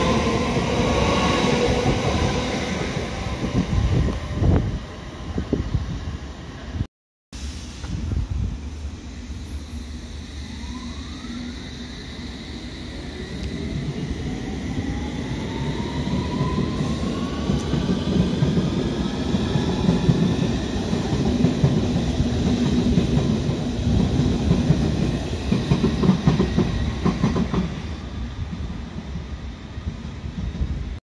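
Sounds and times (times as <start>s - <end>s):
rumble of wheels on rail: 0.0s - 6.8s, 7.6s - 31.0s
train whine: 0.0s - 6.8s, 7.4s - 31.0s.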